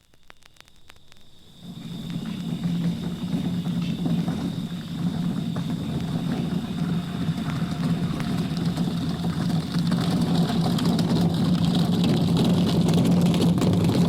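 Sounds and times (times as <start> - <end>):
engine droning: 1.2 - 14.0.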